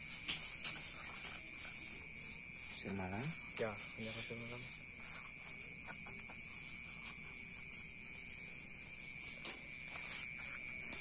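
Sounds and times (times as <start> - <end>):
cricket trill: 0.0 - 11.0
pulsing insect buzz: 0.0 - 11.0.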